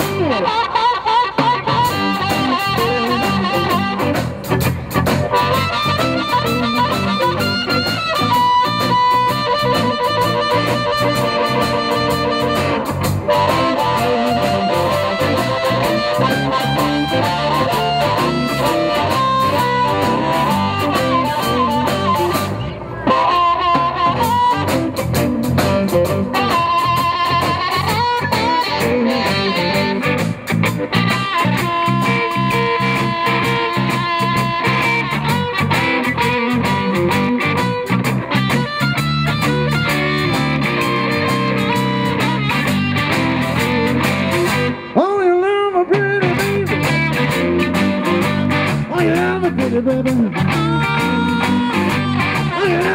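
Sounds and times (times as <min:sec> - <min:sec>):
harmonica with bending notes: 0:00.0 - 0:45.0, 0:50.0 - 0:52.9
live blues band playing: 0:00.0 - 0:52.9.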